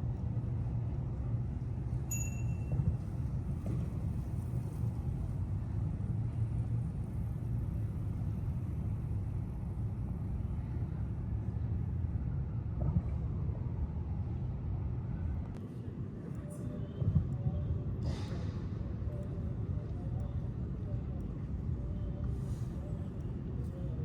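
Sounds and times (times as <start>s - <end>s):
road traffic rumble: 3.0s - 24.0s.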